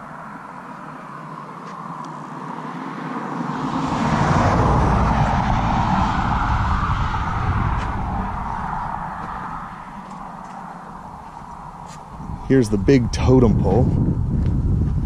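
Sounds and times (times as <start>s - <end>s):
car passing: 0.0s - 14.3s.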